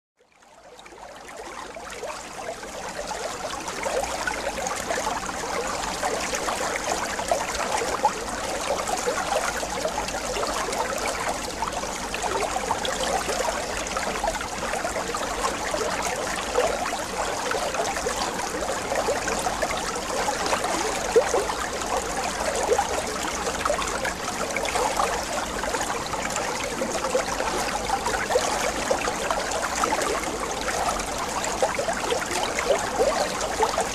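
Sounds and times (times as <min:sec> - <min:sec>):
water trickling and bubbling: 0:00.3 - 0:33.9.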